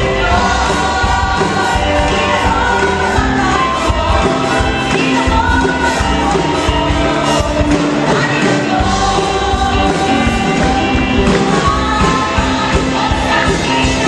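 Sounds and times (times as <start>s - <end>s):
people singing: 0.0s - 14.0s
worship band playing: 0.0s - 14.0s.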